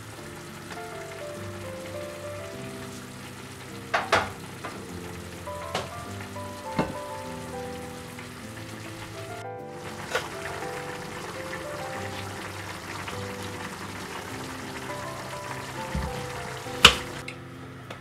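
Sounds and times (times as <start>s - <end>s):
broth bubbling and sizzling in a pan: 0.0s - 17.4s
soft background music: 0.0s - 18.0s.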